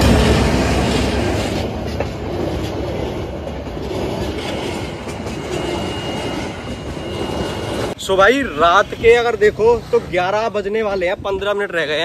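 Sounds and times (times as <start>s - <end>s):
dense road traffic rumble: 0.0s - 12.0s.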